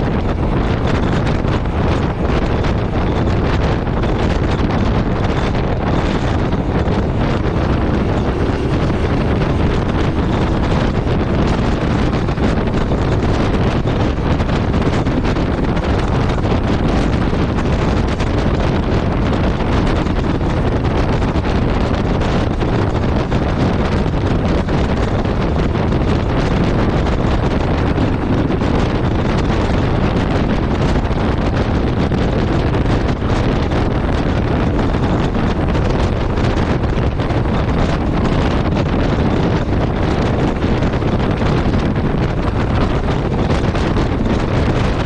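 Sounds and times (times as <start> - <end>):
motorcycle engine: 0.0 - 45.0
road noise: 0.0 - 45.0
wind rush on microphone: 0.0 - 45.0.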